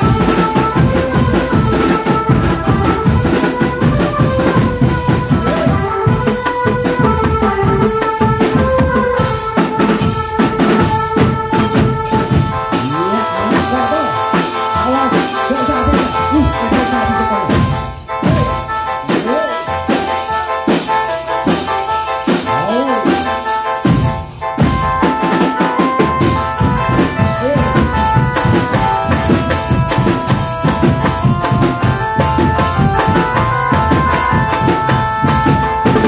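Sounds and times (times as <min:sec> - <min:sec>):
marching drum band playing: 0:00.0 - 0:36.0
melody over drums: 0:00.0 - 0:36.0.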